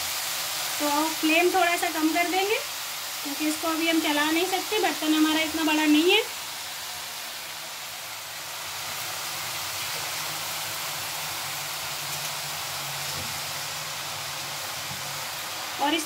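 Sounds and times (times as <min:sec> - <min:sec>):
greens sizzling in a pan: 0:00.0 - 0:16.0.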